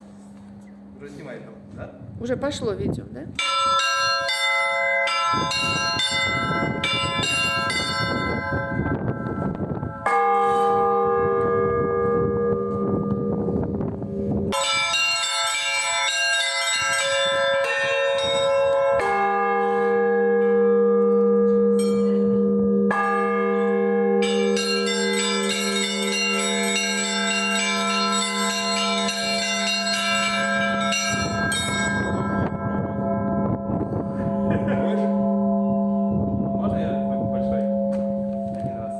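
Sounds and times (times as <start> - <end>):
deepest bell humming: 0.2 - 38.9
deep church bells ringing: 0.9 - 38.9
small church bells struck quickly: 3.4 - 38.9.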